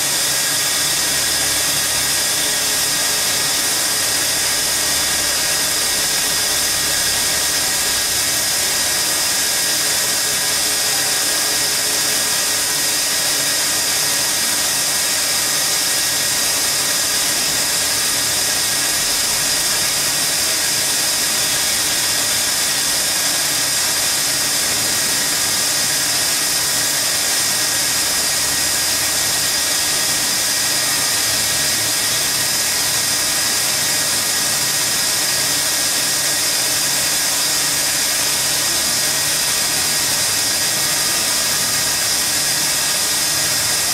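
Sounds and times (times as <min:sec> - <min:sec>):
band saw cutting metal: 0:00.0 - 0:43.9.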